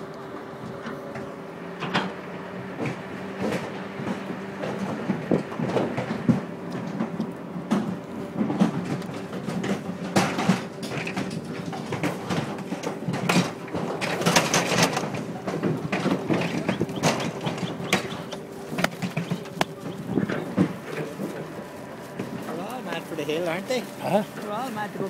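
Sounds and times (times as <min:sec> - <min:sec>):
steady low hum: 0:00.0 - 0:25.0
hooves clanking on metal floor: 0:00.7 - 0:25.0.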